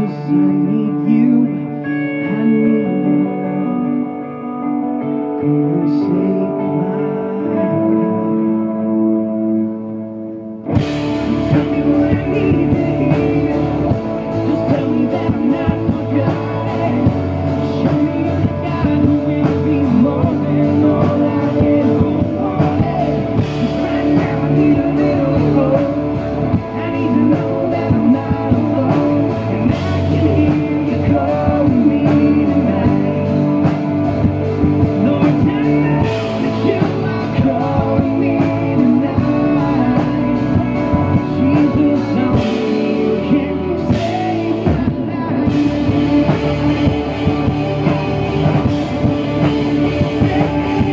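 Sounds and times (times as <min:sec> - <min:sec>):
man singing: 0:00.0 - 0:09.8, 0:10.8 - 0:50.9
pop-rock band playing: 0:00.0 - 0:50.9.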